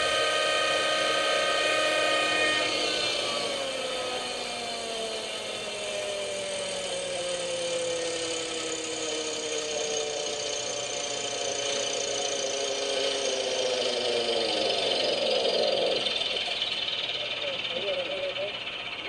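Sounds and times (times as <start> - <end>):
model helicopter engine whine: 0.0 - 19.0.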